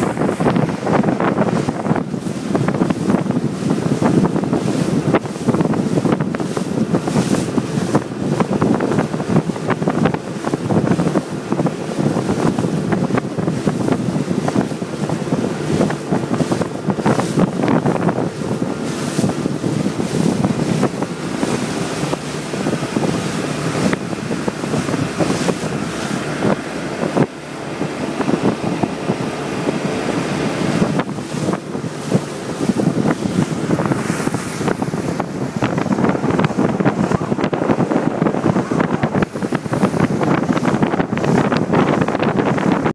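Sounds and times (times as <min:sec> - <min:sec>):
water rushing along hull: 0:00.0 - 0:42.9
wind buffeting microphone: 0:00.0 - 0:42.9.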